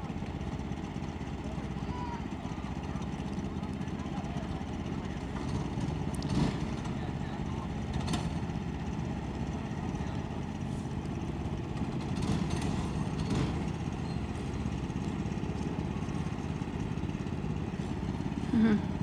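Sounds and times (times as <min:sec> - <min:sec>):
kart engines droning: 0:00.0 - 0:19.0.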